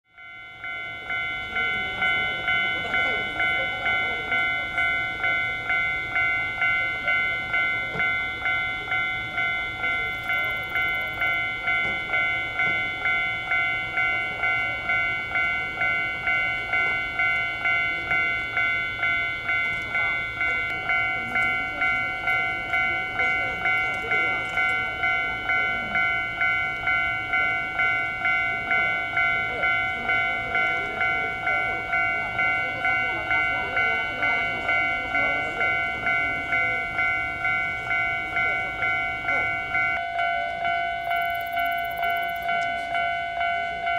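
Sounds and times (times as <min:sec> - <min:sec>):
level crossing warning bell: 0:00.1 - 0:43.9.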